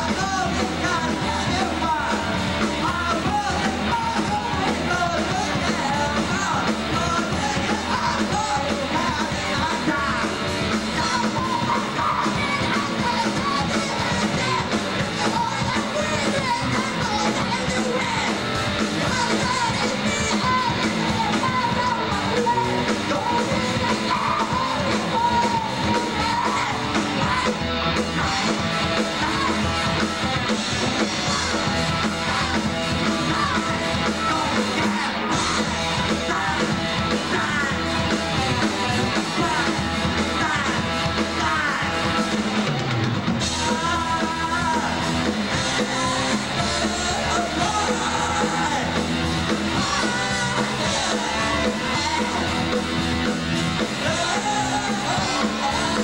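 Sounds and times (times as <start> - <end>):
drums: 0.0 - 56.0
guitar: 0.0 - 56.0
man singing and shouting: 0.0 - 56.0.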